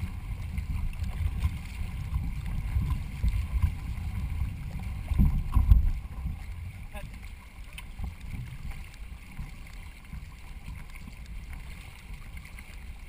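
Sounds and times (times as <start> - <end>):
water splashing against canoe: 0.0 - 13.0
wind rumbling on microphone: 0.0 - 13.0.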